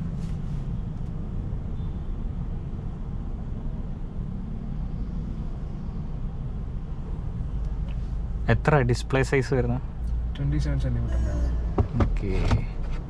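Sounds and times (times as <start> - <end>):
car cabin road and tyre noise: 0.0 - 13.0.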